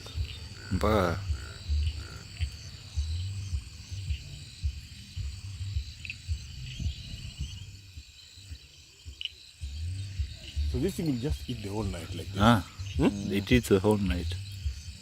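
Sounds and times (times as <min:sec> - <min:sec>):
crickets trilling: 0:00.0 - 0:15.0
low thumps on microphone: 0:00.0 - 0:15.0
short insect chirps: 0:00.0 - 0:15.0.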